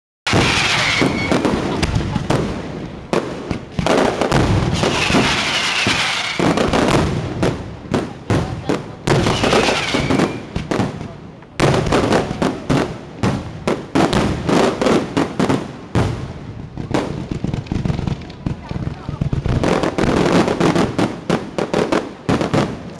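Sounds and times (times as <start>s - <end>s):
fireworks bursting with loud bangs: 0.3s - 22.9s.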